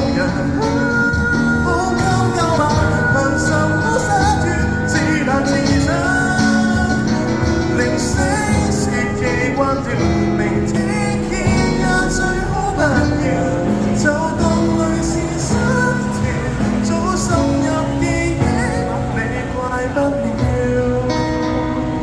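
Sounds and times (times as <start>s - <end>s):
bass line: 0.0s - 22.0s
guitar: 0.0s - 22.0s
live band playing: 0.0s - 22.0s.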